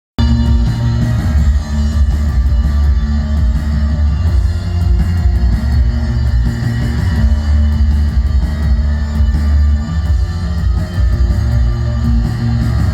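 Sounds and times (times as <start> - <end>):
electric guitar: 0.2 - 12.9
heavy bass notes: 0.2 - 12.9
live band playing loudly: 0.2 - 12.9.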